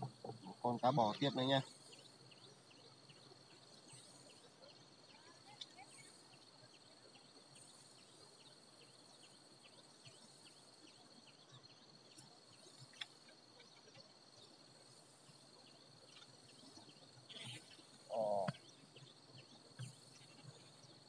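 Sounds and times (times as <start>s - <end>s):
insects trilling and chirping: 0.0s - 21.0s.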